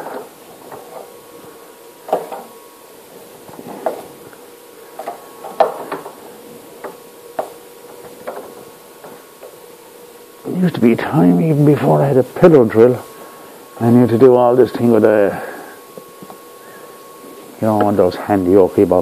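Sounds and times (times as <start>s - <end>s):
pillar drill humming: 0.0s - 19.0s.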